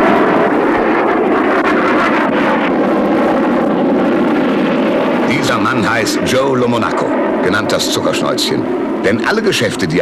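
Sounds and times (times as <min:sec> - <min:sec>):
jet airliner landing: 0:00.0 - 0:10.0.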